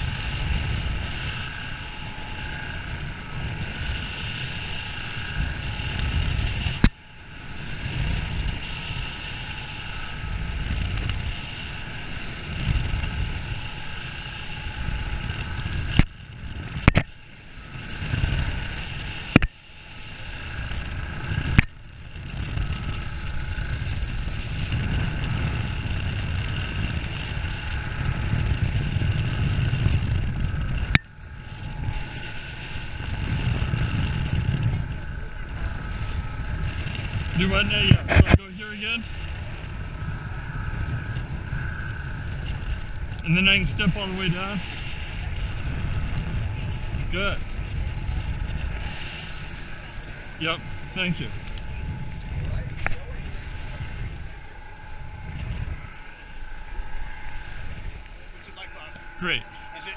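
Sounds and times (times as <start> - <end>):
steady hum: 0.0 - 59.9
wind rumbling on microphone: 0.0 - 59.9.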